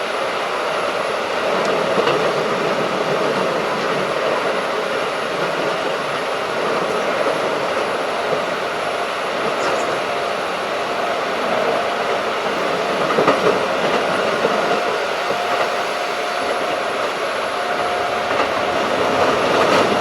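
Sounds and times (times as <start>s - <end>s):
electric train wheels roaring: 0.0s - 20.0s.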